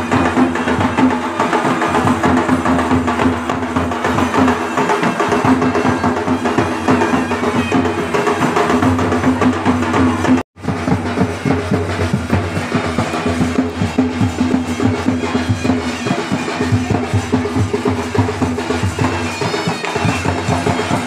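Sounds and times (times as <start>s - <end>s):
clacking percussion: 0.0s - 21.0s
fast steady drumming: 0.0s - 21.0s.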